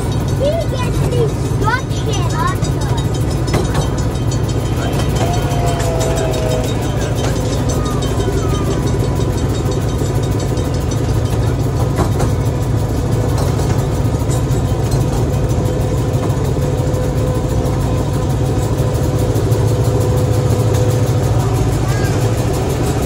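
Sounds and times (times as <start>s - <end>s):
miniature train engine drone: 0.0s - 23.0s.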